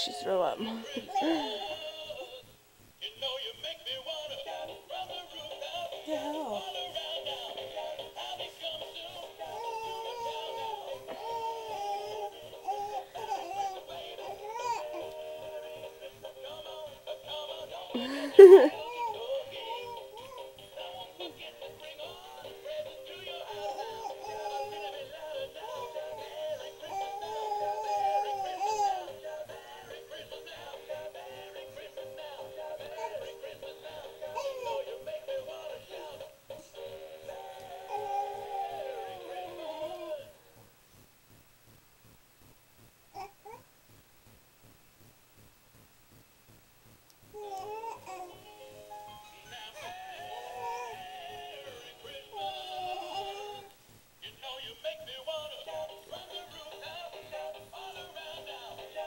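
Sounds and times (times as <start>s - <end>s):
toy singing through speaker: 3.0s - 40.4s, 47.4s - 59.0s.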